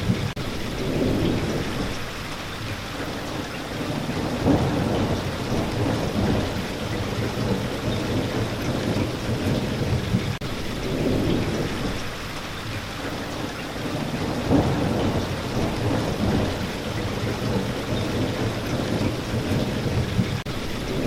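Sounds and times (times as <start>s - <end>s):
rolling thunder rumble: 0.0s - 21.0s
steady rain: 0.0s - 21.0s.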